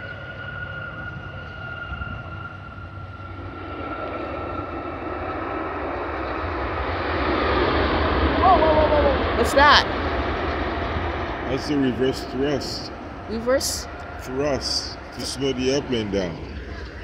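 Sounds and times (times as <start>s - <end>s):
jet engine whine: 0.0s - 17.0s
reverse thrust roar: 0.0s - 17.0s.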